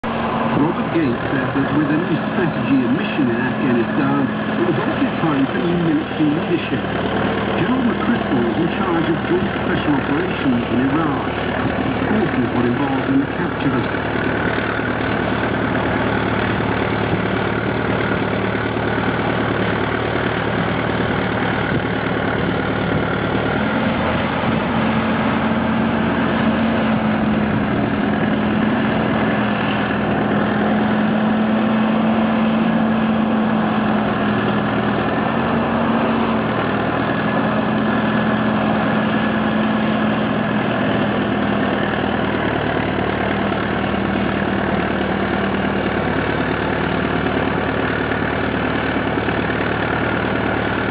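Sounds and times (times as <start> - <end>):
farm machine engine running: 0.0 - 50.9.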